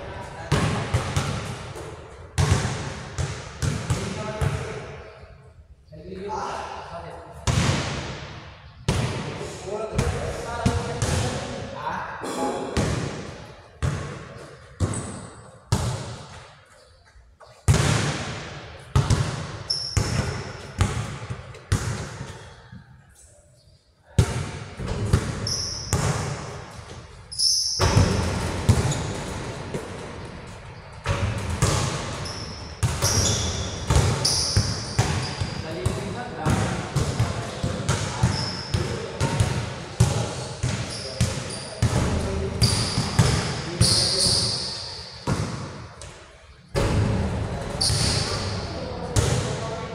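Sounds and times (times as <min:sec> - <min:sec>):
basketball bouncing in hall: 0:00.0 - 0:05.3, 0:07.4 - 0:22.9, 0:24.0 - 0:49.9.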